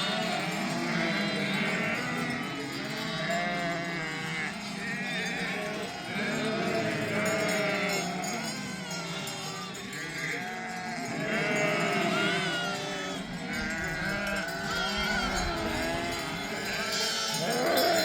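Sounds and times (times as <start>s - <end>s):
sheep bleating: 0.0s - 18.0s.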